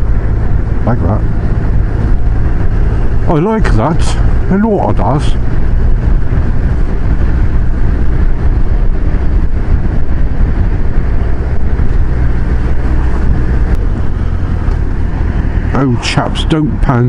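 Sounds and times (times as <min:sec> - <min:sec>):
motorcycle engine running: 0:00.0 - 0:16.2
wind rumble on microphone: 0:00.0 - 0:17.0.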